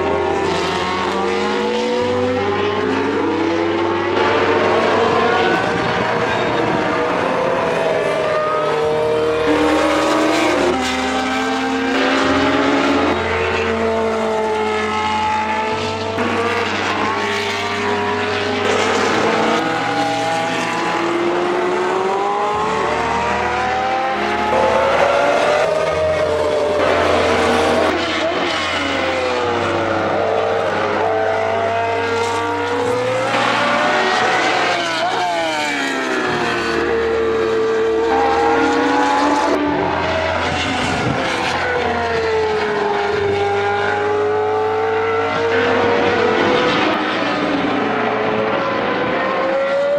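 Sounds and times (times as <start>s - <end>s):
racing car engines: 0.0s - 49.9s.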